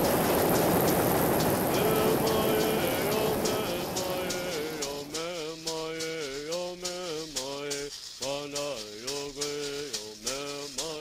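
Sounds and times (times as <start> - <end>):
shaken rattle beat: 0.0 - 11.0
man chanting in held notes: 1.6 - 11.0.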